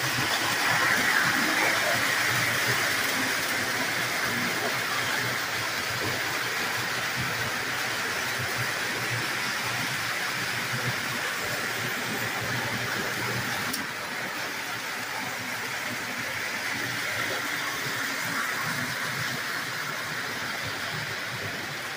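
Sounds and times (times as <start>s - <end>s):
toy trains running on track: 0.0s - 21.9s.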